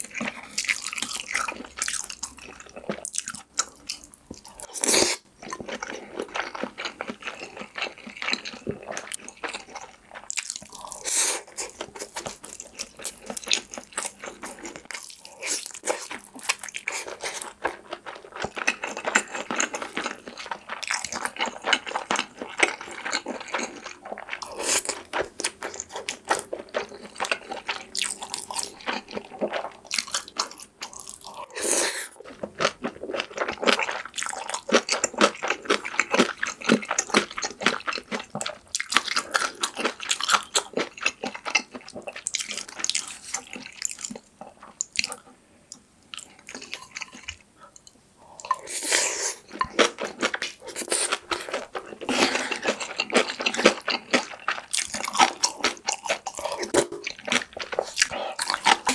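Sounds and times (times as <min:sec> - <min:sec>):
wet chewing mouth sounds: 0:00.0 - 0:58.9.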